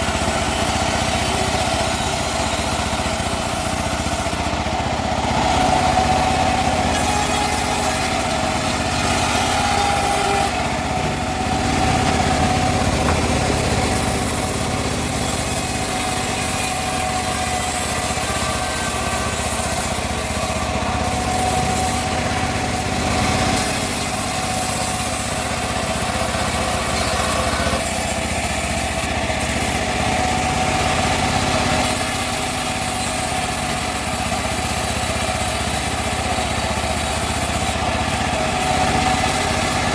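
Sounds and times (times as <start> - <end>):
bandsaw mill cutting wood: 0.0 - 39.9.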